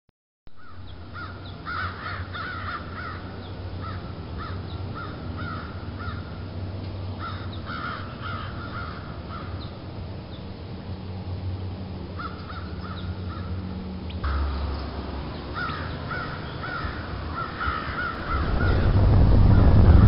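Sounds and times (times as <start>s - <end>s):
birds cawing: 0.6s - 9.9s, 12.1s - 20.0s
steady low hum: 0.6s - 20.0s.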